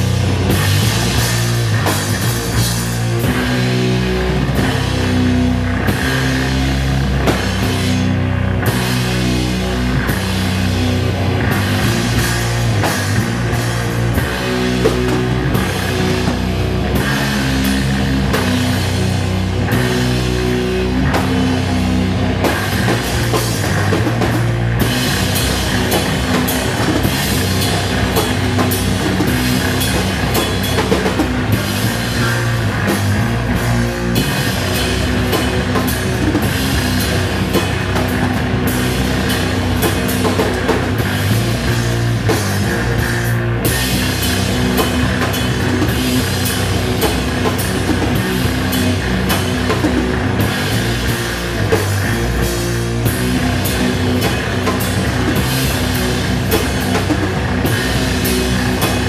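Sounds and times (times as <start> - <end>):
electric guitar: 0.0 - 59.0
fast dense drumming: 0.0 - 59.0.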